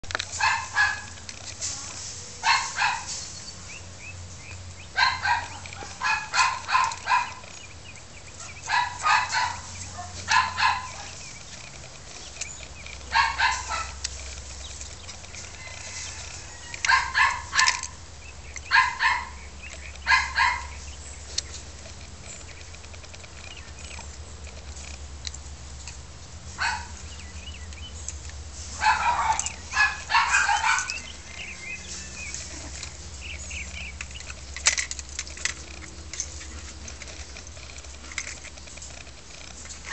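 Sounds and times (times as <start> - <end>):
puppies yapping: 0.1 - 1.3, 2.3 - 24.8, 26.5 - 39.9.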